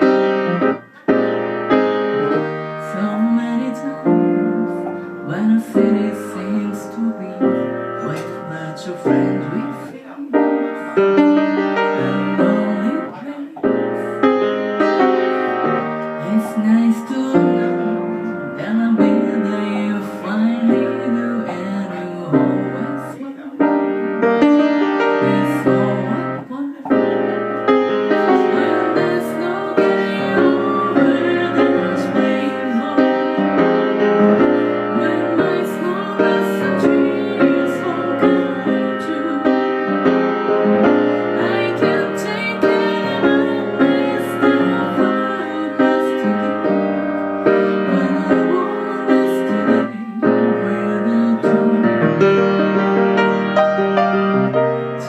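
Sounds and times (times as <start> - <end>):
slow piano music: 0.0 - 55.0.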